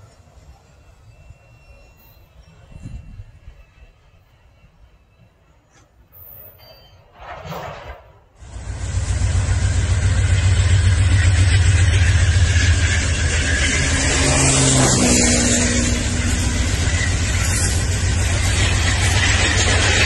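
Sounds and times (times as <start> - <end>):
diesel locomotive engine rumble: 0.0 - 6.8, 8.4 - 20.0
rail noise: 0.0 - 20.0.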